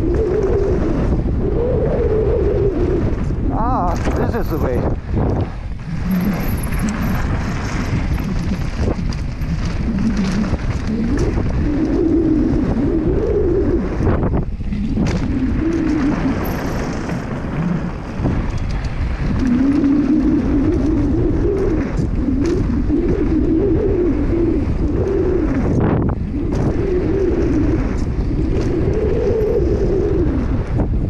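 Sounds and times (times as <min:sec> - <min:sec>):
bike tyres rolling on dirt: 0:00.0 - 0:31.0
wavering hum: 0:00.0 - 0:31.0
wind on microphone: 0:00.0 - 0:31.0.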